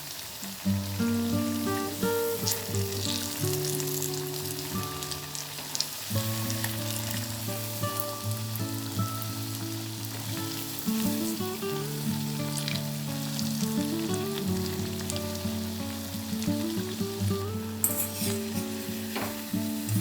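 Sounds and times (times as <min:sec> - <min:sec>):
food sizzling in hot oil: 0:00.0 - 0:20.0
soft background melody: 0:01.0 - 0:20.0.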